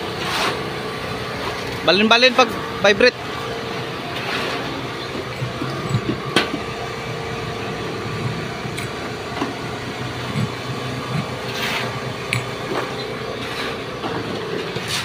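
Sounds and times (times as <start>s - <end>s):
concrete vibrator droning: 0.0s - 15.0s.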